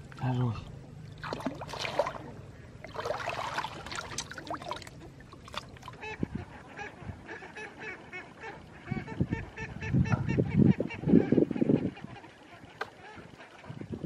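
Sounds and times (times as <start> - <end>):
water splashing and sloshing: 0.0 - 10.6, 11.8 - 14.0.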